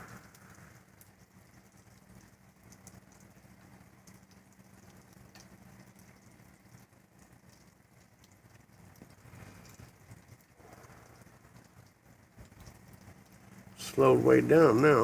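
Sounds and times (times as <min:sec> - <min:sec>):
faint rain pattering: 0:00.0 - 0:15.0
sharp drips: 0:00.0 - 0:15.0.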